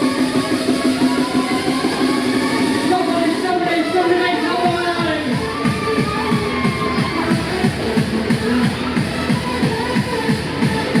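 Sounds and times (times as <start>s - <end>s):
loud music from sound system: 0.0s - 11.0s.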